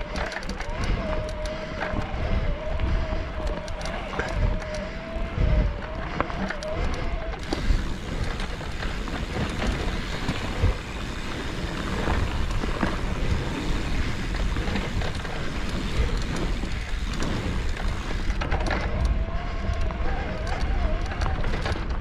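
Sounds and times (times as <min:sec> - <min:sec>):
bike knocking and rattling: 0:00.0 - 0:22.0
tyres rumbling over dirt: 0:00.0 - 0:22.0
wind noise on microphone: 0:00.0 - 0:22.0.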